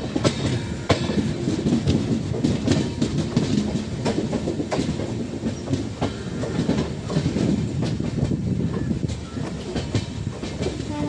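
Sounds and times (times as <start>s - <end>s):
train wheels rumbling: 0.0s - 11.0s
wheels clacking over rail joints: 0.0s - 11.0s.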